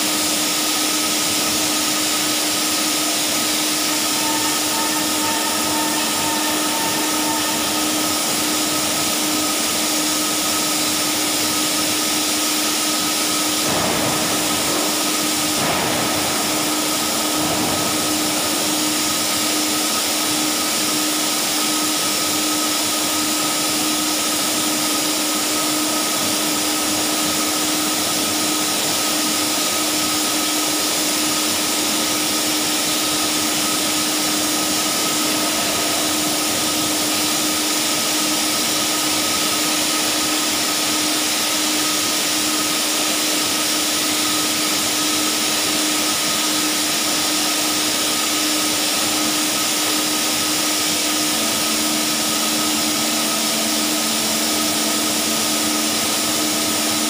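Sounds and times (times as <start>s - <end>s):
hydraulic pump motor droning: 0.0s - 57.0s.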